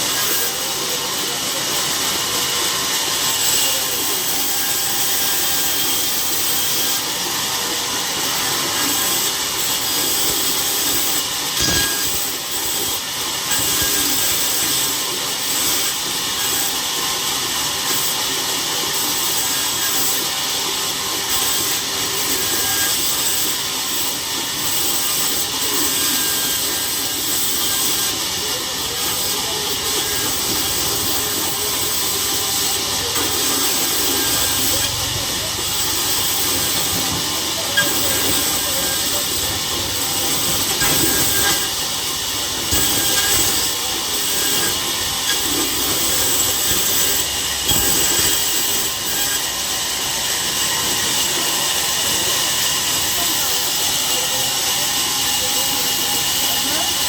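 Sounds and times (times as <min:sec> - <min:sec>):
saw cutting through log: 0:00.0 - 0:57.0.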